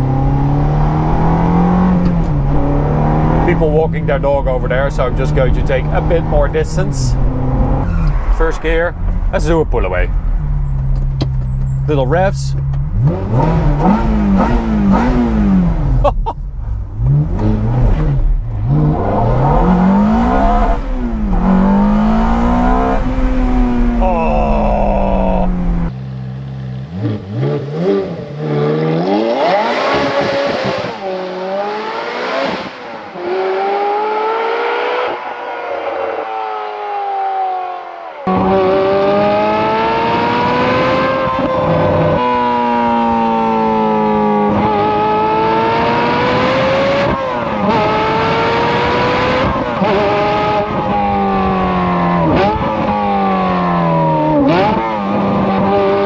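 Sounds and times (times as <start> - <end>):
sports car engine accelerating: 0.0 - 56.0.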